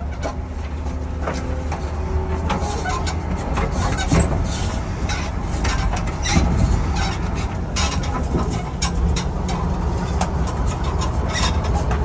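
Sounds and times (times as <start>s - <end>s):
bus running rumble: 0.0s - 12.0s
suspension knocks and rattles: 0.0s - 12.0s.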